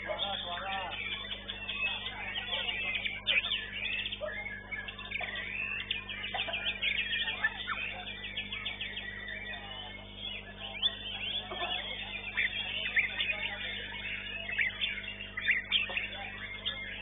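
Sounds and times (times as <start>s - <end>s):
low electrical hum: 0.0s - 17.0s
songbird chirping and whistling: 0.0s - 17.0s.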